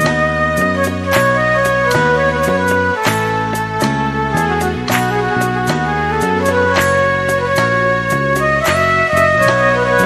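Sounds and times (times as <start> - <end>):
instrumental devotional music: 0.0 - 10.0.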